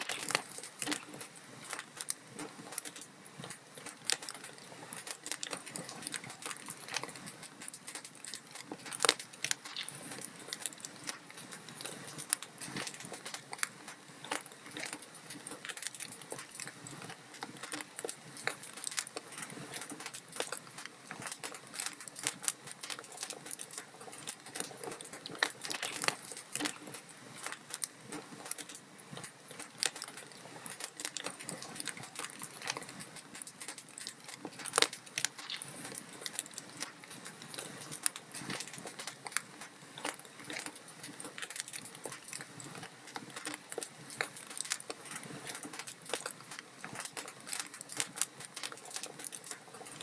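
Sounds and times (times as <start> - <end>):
wood fire crackling and popping: 0.0 - 50.0.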